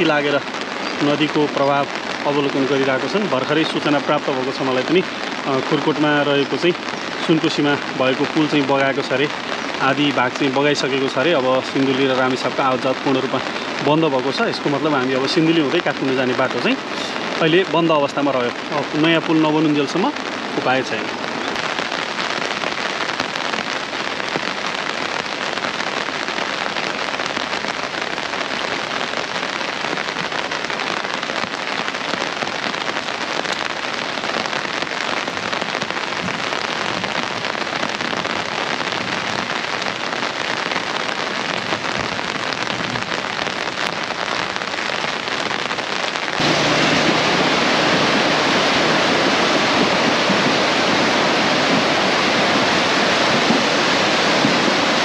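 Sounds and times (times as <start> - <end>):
flooding stream rushing: 0.0 - 55.0
rain hissing: 0.0 - 55.0.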